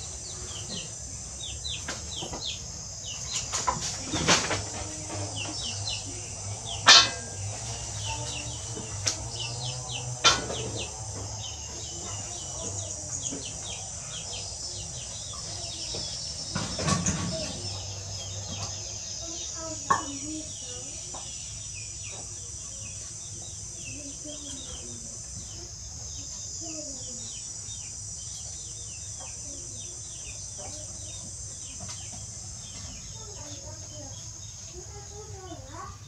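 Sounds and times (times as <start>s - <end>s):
birds chirping: 0.0s - 36.0s
steady high hiss: 0.0s - 36.0s.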